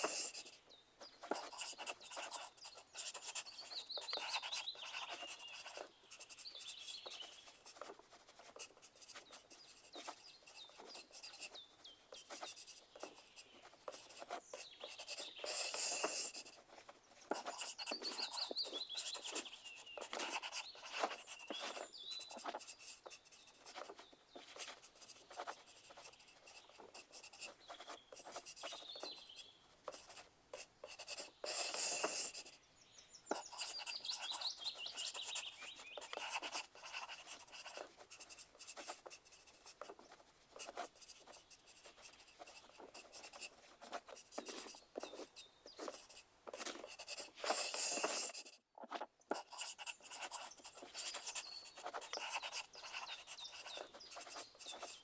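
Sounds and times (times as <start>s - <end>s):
pencil scratching on paper: 0.0s - 32.6s, 33.3s - 48.6s, 49.3s - 55.0s.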